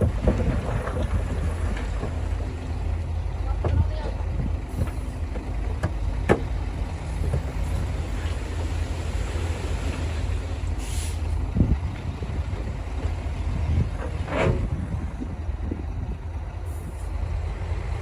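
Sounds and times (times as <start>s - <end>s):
diesel machinery rumble: 0.0s - 18.0s.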